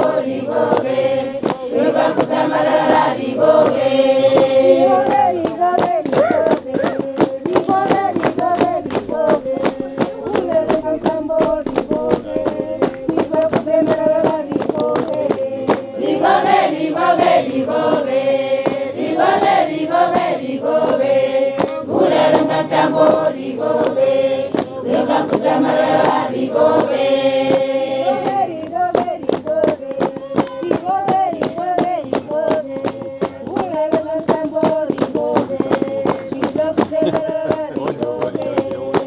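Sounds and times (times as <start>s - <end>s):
sharp handclaps: 0.0s - 39.0s
women singing a chant: 0.0s - 39.0s.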